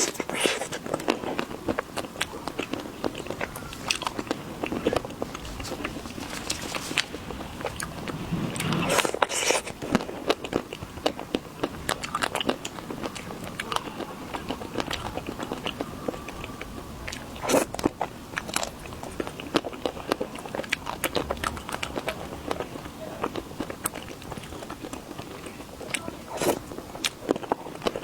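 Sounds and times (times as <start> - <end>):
chewing chocolate with crunching: 0.0 - 28.0.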